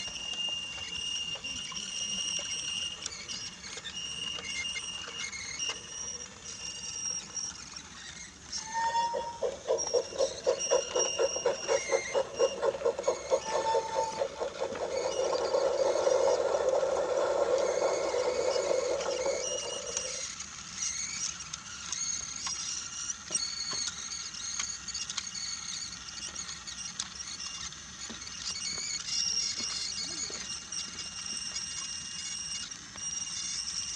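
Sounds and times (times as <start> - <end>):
toy train motor whir: 0.0 - 33.9
toy train rapid clicking: 0.0 - 33.9.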